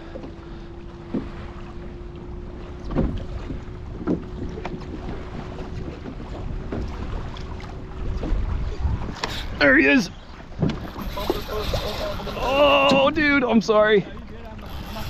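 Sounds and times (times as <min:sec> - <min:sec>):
wind rumble on microphone: 0:00.0 - 0:13.4
water against hull: 0:00.0 - 0:15.0.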